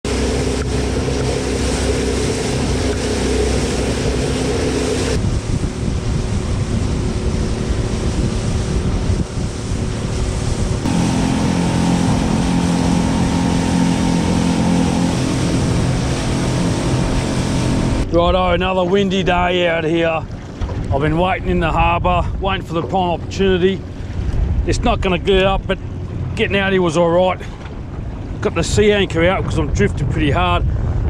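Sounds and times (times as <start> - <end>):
outboard motor running: 0.0 - 29.9
water rushing past hull: 0.0 - 31.0
wind buffeting microphone: 0.0 - 31.0.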